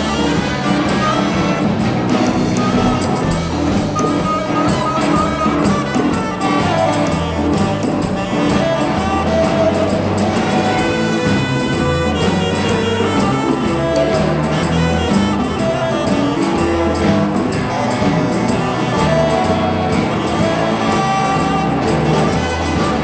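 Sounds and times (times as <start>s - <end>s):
live blues band playing: 0.0s - 23.0s.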